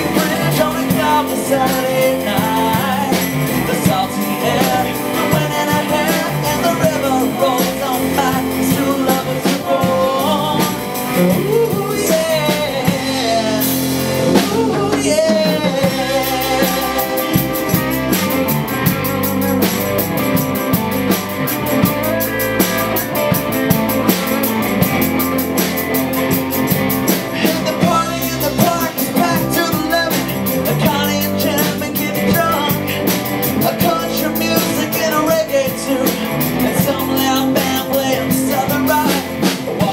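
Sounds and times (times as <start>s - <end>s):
singer: 0.0s - 20.8s, 27.1s - 39.9s
live band playing: 0.0s - 39.9s.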